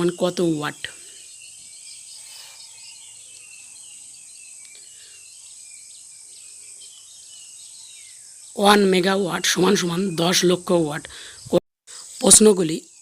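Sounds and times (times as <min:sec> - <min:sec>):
high insect drone: 0:00.0 - 0:13.0
small birds chirping: 0:00.0 - 0:13.0.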